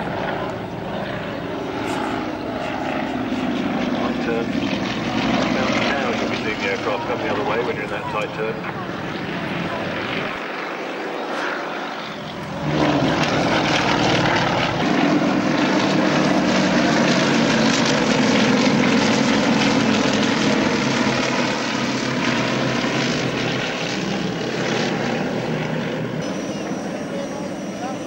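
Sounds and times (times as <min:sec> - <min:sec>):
propeller aircraft flying past: 0:00.0 - 0:28.0.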